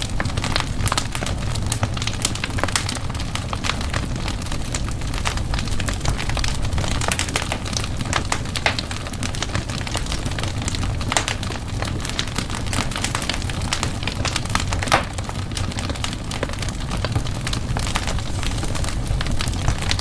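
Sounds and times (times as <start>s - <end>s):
fireplace fire crackling and popping: 0.0s - 20.0s
low rumble of flames: 0.0s - 20.0s.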